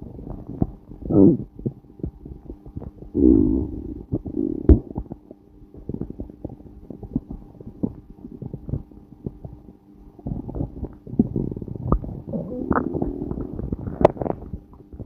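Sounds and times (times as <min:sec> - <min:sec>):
stomach growling and gurgling: 0:00.0 - 0:15.0.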